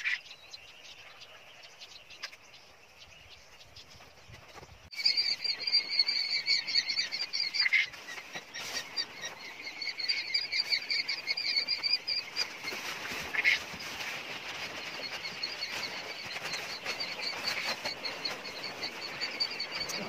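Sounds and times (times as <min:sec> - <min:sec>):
quail chicks peeping: 0:00.0 - 0:20.0.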